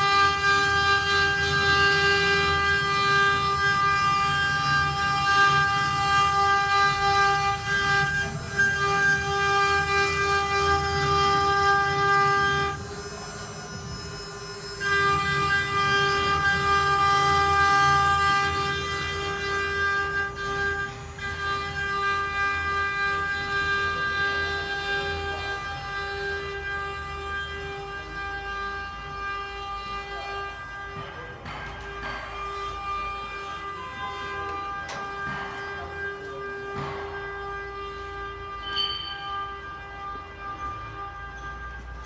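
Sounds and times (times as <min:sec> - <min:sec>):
router spindle high whine: 0:00.0 - 0:42.0.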